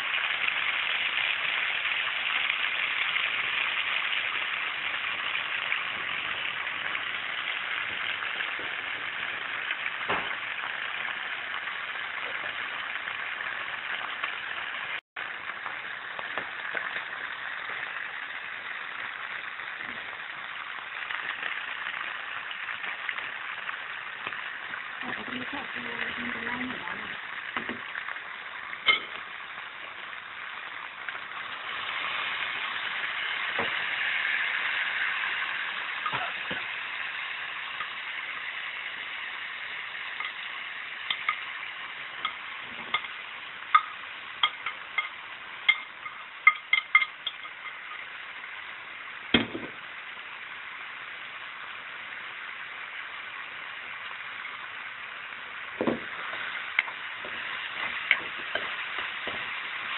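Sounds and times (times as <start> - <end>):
food sizzling in a wok: 0.0 - 59.9.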